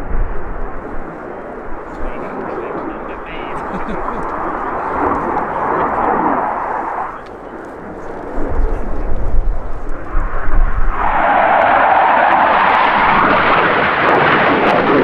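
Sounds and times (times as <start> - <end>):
jet flypast rushing roar: 0.0 - 15.0.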